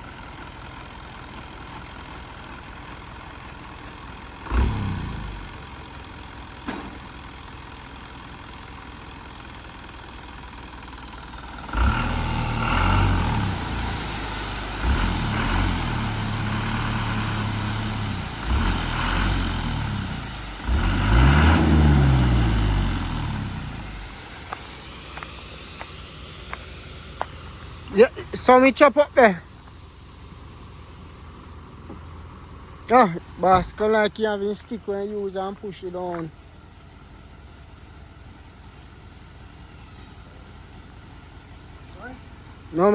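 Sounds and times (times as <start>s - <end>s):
truck engine revving: 0.0s - 38.5s.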